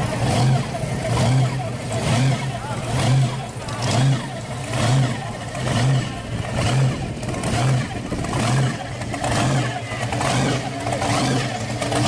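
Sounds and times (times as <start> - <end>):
car engine rough idle: 0.0 - 12.0.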